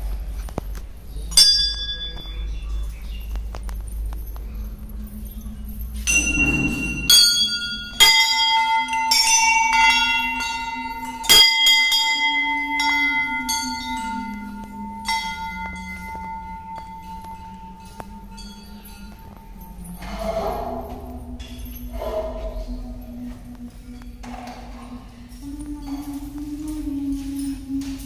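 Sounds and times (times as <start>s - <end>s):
temple bell ringing: 1.3s - 3.0s, 3.9s - 26.3s.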